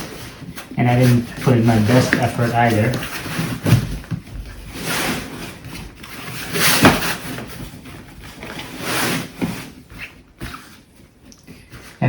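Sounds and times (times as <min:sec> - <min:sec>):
fabric rustling and rubbing: 0:00.0 - 0:12.0.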